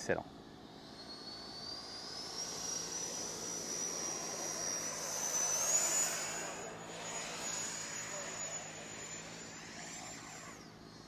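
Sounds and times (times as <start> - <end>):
electric ducted fan whining: 0.0 - 11.0.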